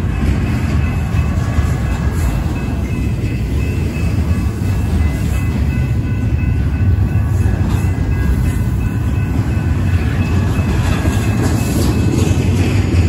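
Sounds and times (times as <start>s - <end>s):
freight train rumbling past: 0.0s - 13.0s
wheels clicking on rail: 0.0s - 13.0s.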